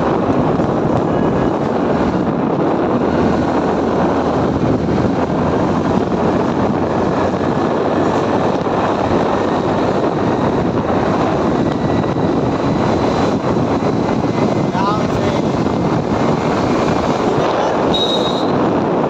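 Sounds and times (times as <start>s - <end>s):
motorcycle engine running: 0.0s - 19.0s
wind buffeting microphone: 0.0s - 19.0s.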